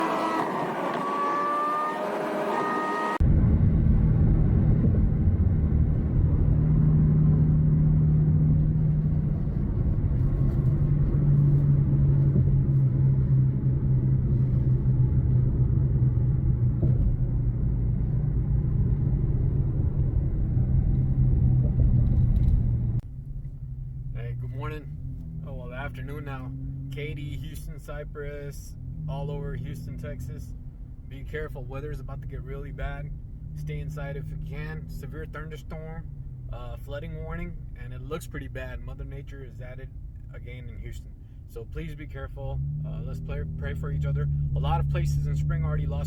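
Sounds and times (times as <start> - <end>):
car engine hum: 0.0 - 46.0
road noise: 0.0 - 46.0.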